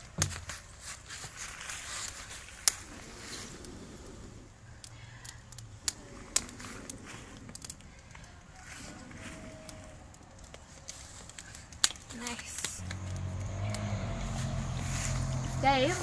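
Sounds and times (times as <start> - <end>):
fire crackling and popping: 0.0 - 16.0
person blowing on embers: 0.6 - 16.0.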